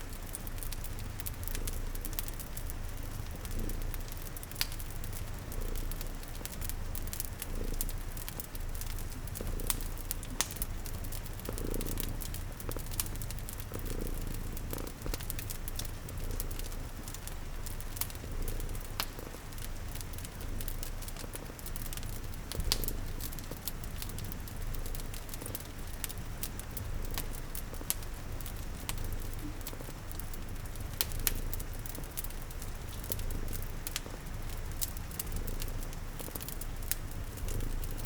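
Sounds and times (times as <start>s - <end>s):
cat purring: 0.0s - 38.0s
rain pattering: 0.0s - 38.0s
wood fire crackling: 0.0s - 38.0s.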